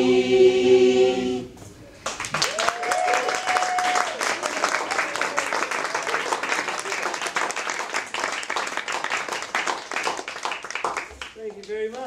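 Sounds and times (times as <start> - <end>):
audience applauding: 2.0 - 12.0.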